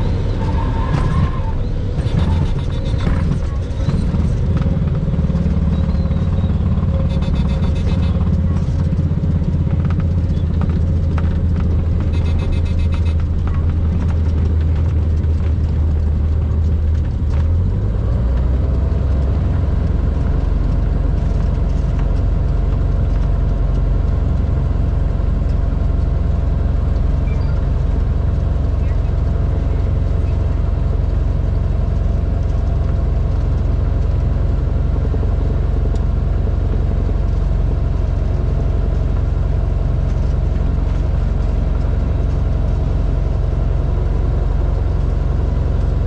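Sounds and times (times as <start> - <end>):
propeller plane engine running: 0.0 - 46.0.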